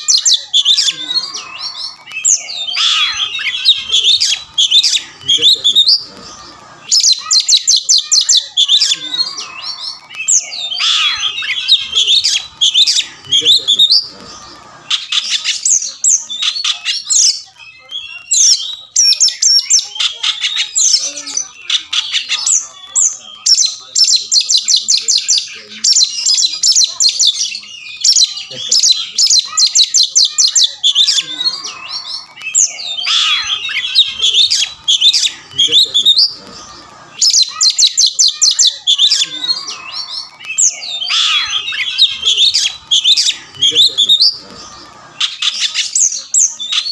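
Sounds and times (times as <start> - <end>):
bird singing loudly: 0.0 - 46.9.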